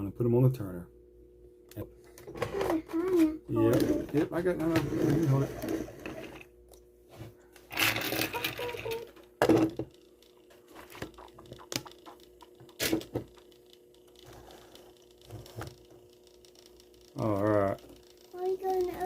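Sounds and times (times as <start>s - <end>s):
faint motorized turntable hum: 0.0s - 19.0s.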